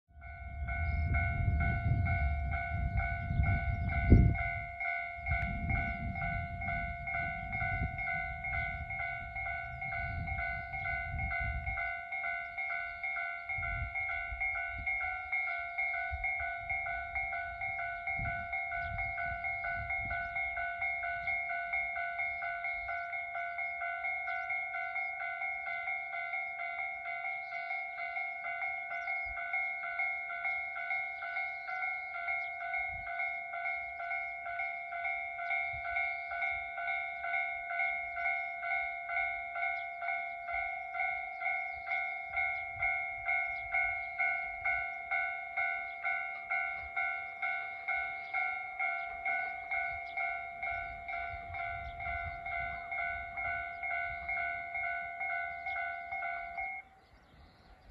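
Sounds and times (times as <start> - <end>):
level crossing warning bell: 0.1 - 57.9.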